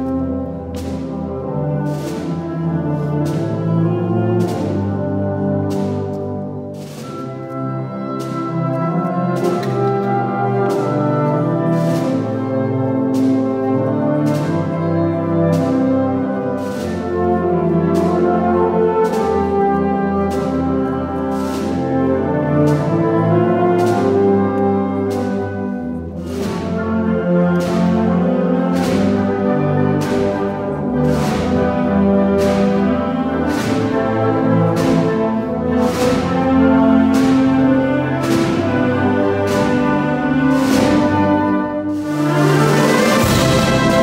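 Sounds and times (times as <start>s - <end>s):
wind band playing a slow march: 0.0s - 44.0s.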